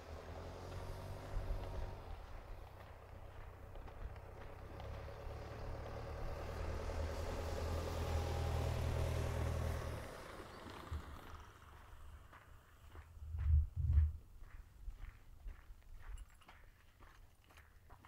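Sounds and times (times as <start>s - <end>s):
van driving past: 0.0s - 15.6s.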